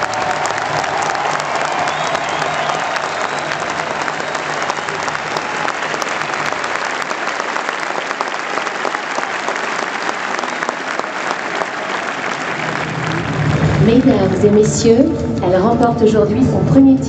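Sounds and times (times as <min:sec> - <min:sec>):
stadium crowd applauding: 0:00.0 - 0:15.2.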